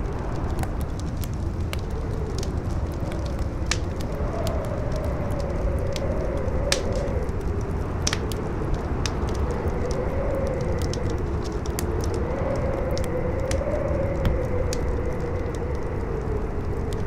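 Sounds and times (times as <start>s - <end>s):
campfire crackling and popping: 0.0s - 17.0s
strong wind howling: 0.0s - 17.0s.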